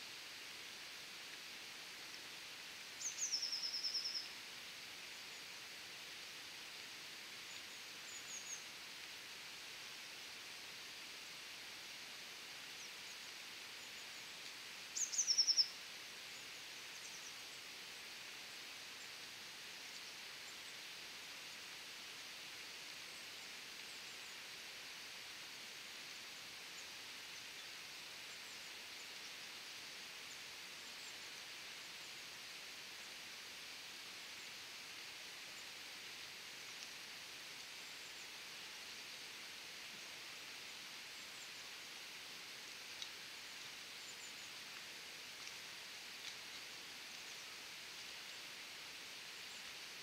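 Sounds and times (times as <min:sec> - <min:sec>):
faint outdoor hiss: 0:00.0 - 0:50.0.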